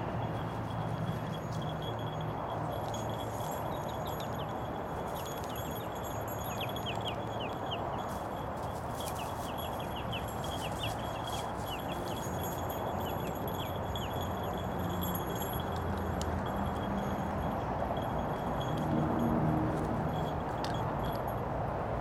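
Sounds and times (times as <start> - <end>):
road traffic hum: 0.0 - 22.0
dog collar tags jingling: 0.2 - 21.5.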